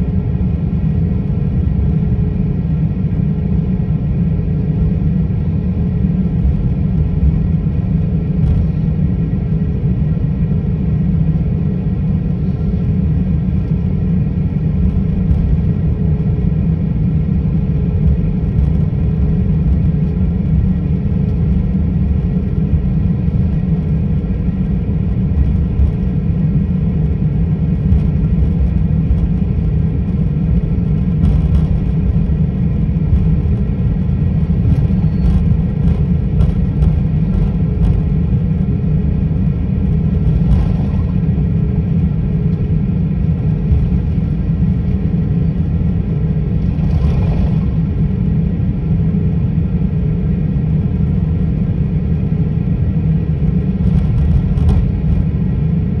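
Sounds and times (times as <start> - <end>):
airliner cabin low rumble: 0.0 - 56.0.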